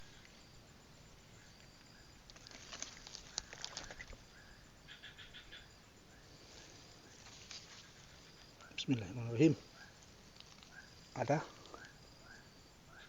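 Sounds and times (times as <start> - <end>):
rustles: 0.0 - 4.6, 6.0 - 12.7.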